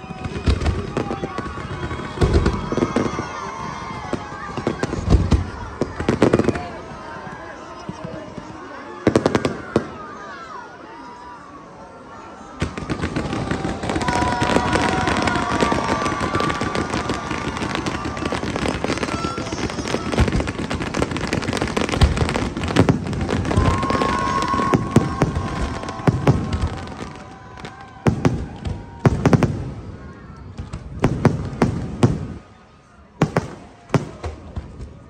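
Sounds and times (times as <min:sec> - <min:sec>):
fireworks crackling and booming: 0:00.0 - 0:10.3, 0:12.6 - 0:35.0.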